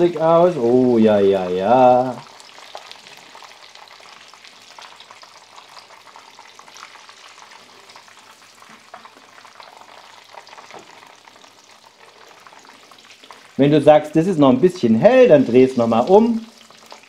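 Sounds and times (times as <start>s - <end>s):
chicken nuggets sizzling in oil: 0.0s - 17.0s.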